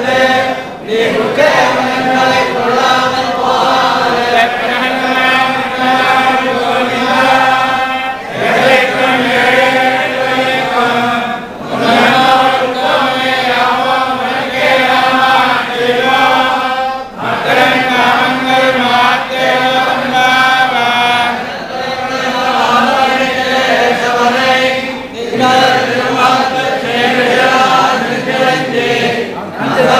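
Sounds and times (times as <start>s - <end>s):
men chanting in unison: 0.0s - 29.9s.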